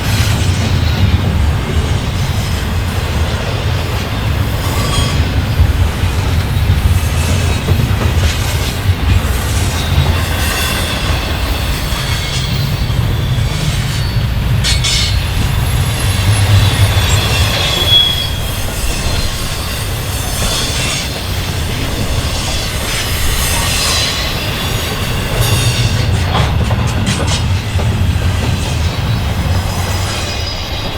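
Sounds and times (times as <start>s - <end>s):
freight train cars rumbling: 0.0s - 30.9s
train wheels squealing: 0.0s - 30.9s
wheels clacking on rails: 0.0s - 30.9s.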